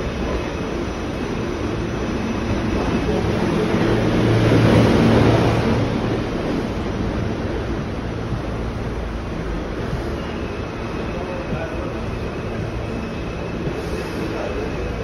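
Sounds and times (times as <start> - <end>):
subway car rumble and hum: 0.0 - 15.0.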